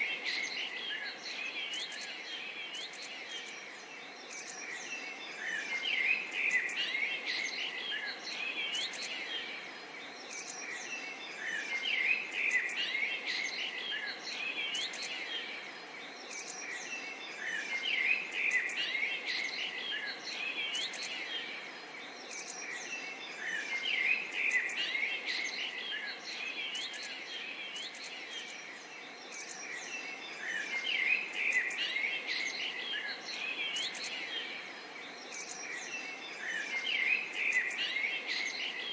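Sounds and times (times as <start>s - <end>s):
faint steady background hiss: 0.0s - 38.9s
small birds chirping and twittering: 0.0s - 38.9s.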